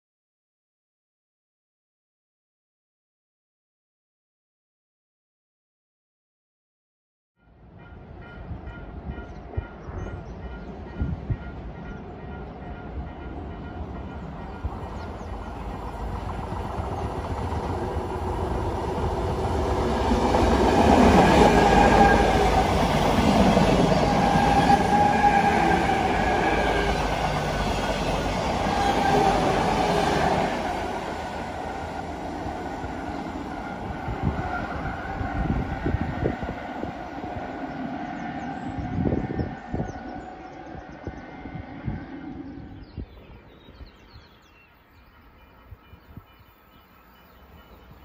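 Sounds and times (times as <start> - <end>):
electric train passing with whine: 7.4 - 48.0.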